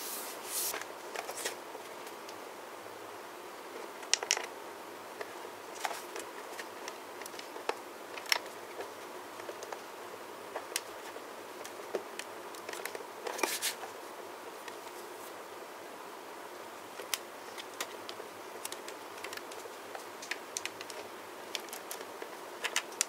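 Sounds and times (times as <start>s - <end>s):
crackly rustle: 0.1s - 2.5s, 3.6s - 15.6s, 16.5s - 23.0s.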